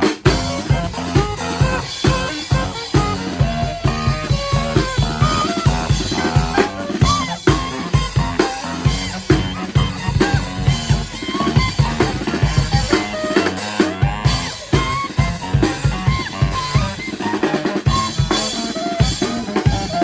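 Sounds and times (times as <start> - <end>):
bass drum and snare beat: 0.0 - 20.0
brass band playing: 0.0 - 20.0.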